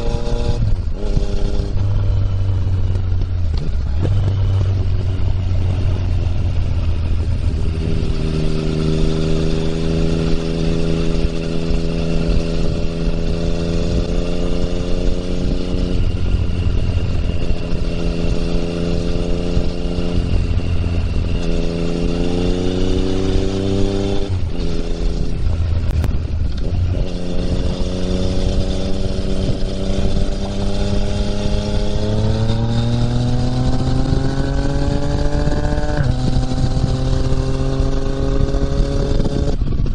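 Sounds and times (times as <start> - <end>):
motorcycle engine under throttle: 0.0 - 39.9.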